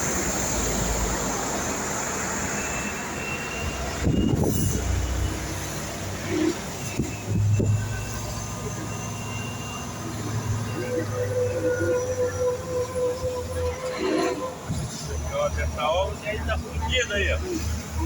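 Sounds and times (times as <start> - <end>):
traffic on wet road: 0.0 - 18.0.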